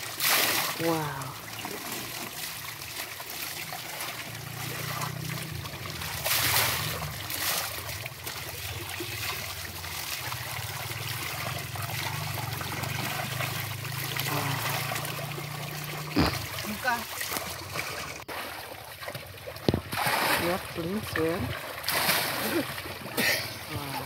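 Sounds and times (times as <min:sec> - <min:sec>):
water pouring from a pipe: 0:00.0 - 0:24.0
water splashing: 0:00.0 - 0:24.0.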